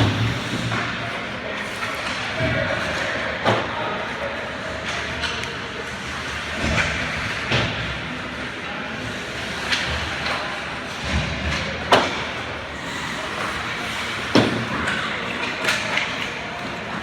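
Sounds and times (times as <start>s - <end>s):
arena hall hum: 0.0s - 17.0s
faint crowd chatter: 0.0s - 17.0s.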